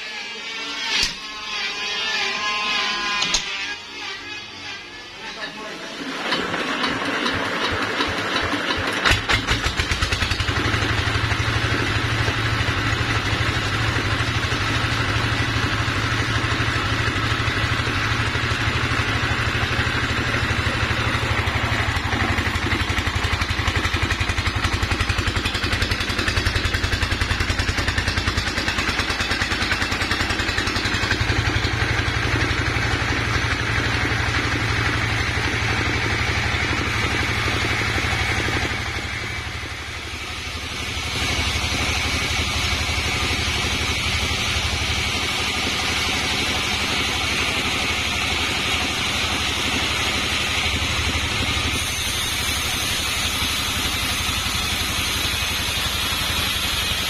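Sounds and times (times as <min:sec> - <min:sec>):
diesel engine running: 0:05.4 - 0:57.0.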